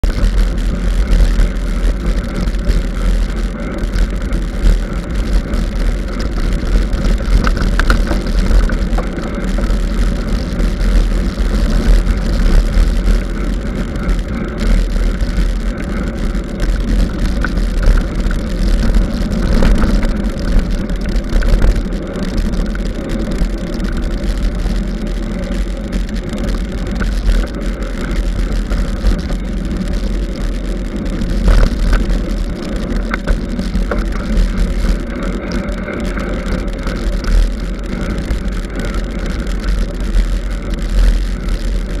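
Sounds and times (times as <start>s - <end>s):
mountain bike rumbling and rattling: 0.0s - 42.0s
wind on microphone: 0.0s - 42.0s.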